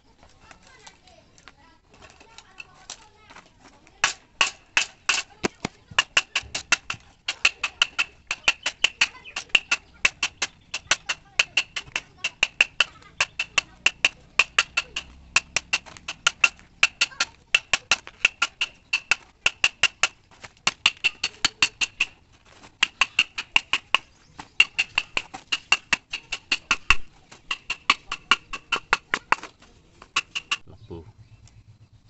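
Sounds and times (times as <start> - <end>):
bamboo sticks tapped clicking: 0.4 - 30.7.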